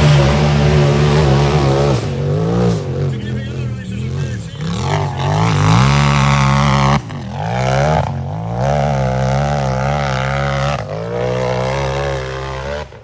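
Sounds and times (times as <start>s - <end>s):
racing engine at high revs: 0.0s - 13.0s.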